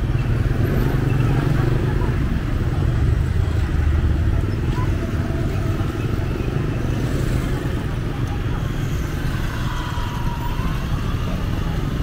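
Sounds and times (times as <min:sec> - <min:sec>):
motorbikes and cars passing: 0:00.0 - 0:12.0.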